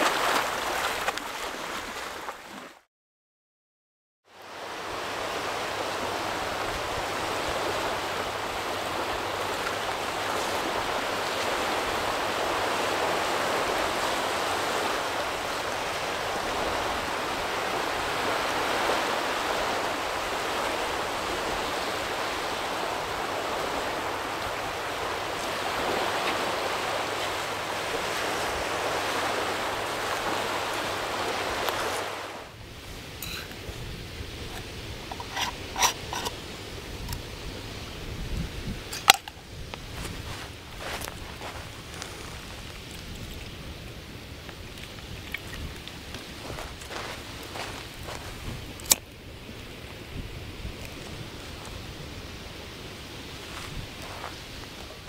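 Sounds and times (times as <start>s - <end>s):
sea waves washing on shore: 0.0s - 2.9s, 4.3s - 55.0s.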